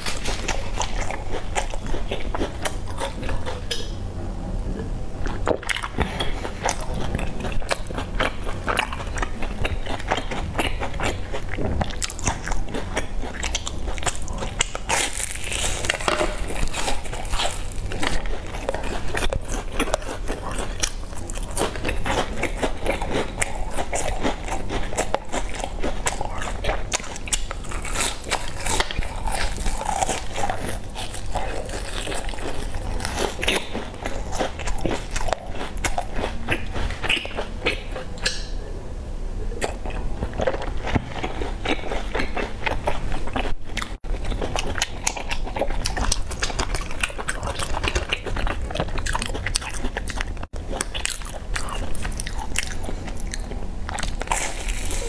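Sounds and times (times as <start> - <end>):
crunchy pastry chewing: 0.0 - 4.0, 5.2 - 38.4, 39.6 - 55.0
steady low hum: 0.0 - 55.0.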